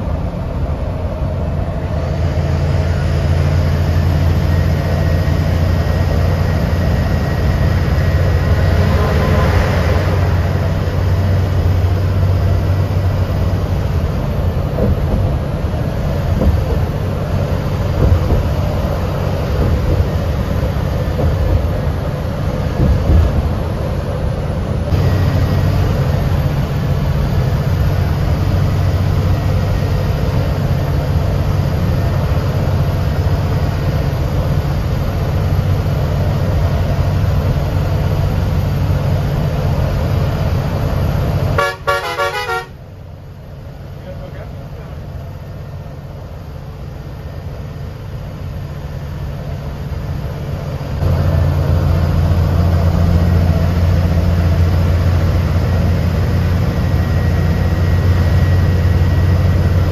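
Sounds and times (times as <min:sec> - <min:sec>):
bus engine drone: 0:00.0 - 0:59.9
tyres on highway: 0:00.0 - 0:59.9.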